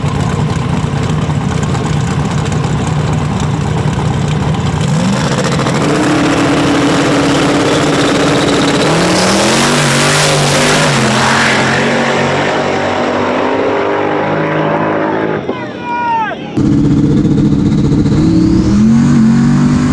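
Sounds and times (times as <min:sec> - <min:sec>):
drag car engines revving: 0:00.0 - 0:19.9.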